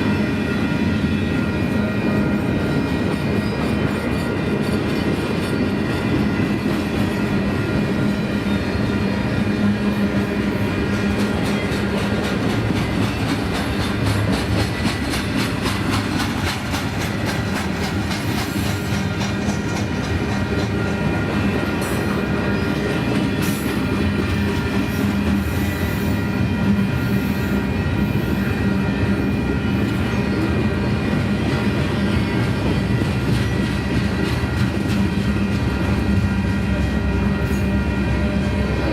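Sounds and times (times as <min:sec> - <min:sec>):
freight train rumble: 0:00.0 - 0:38.9
train wheels clicking over rail joints: 0:02.4 - 0:36.2.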